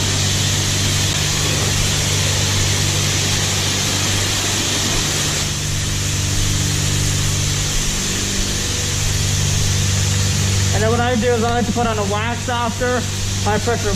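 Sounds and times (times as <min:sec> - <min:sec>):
high-pressure pump humming: 0:00.0 - 0:13.9
pressure washer spray hissing: 0:00.0 - 0:13.9.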